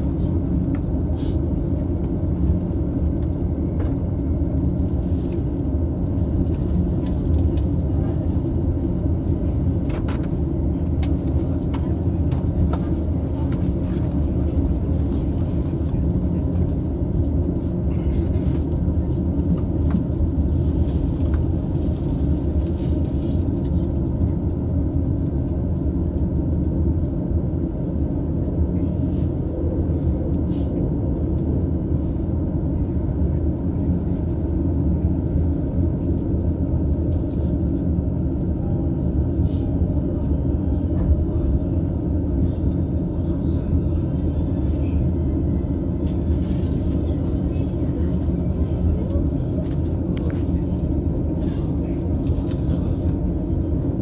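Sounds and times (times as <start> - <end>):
train interior low rumble: 0.0 - 54.0.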